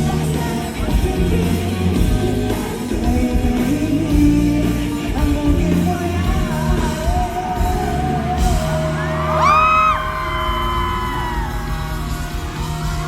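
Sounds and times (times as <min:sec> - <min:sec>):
person singing: 0:00.0 - 0:11.6
live rock band playing: 0:00.0 - 0:13.0.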